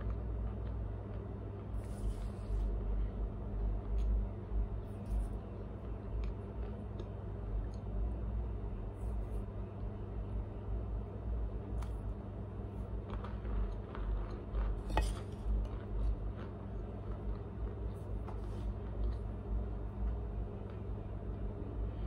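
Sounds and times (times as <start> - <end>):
soft chewing: 0.0 - 11.0, 11.6 - 21.6
steady low hum: 0.0 - 22.0.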